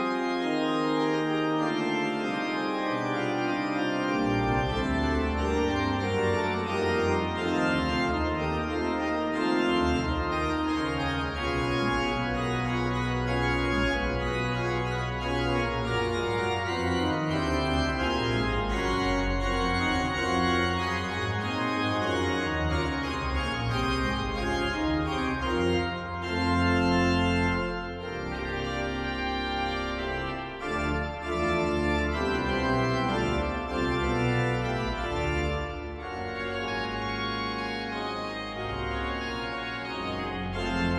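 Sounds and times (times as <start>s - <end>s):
pipe organ fanfare: 0.0s - 40.9s.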